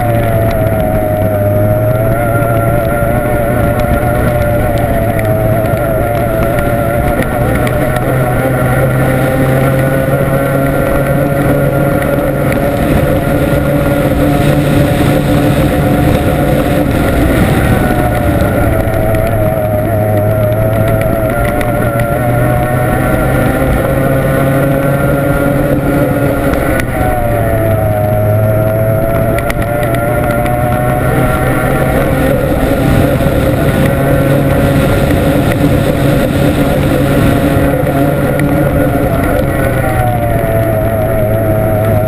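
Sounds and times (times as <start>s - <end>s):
outboard racing engine running: 0.0s - 42.0s
rushing wind: 0.0s - 42.0s
water noise: 0.0s - 42.0s.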